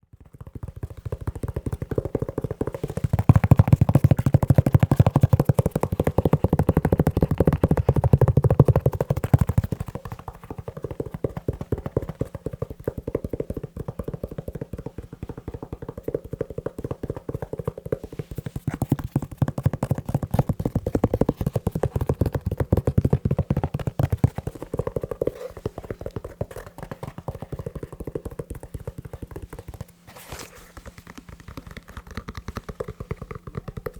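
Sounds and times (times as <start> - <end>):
fast tapping on leather shoe: 0.0 - 30.1, 30.8 - 33.9.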